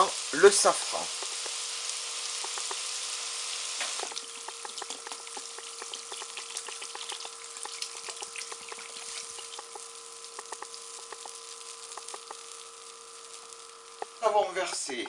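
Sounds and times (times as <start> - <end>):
crackle with popping: 0.0 - 15.0
food sizzling in oil: 0.0 - 15.0.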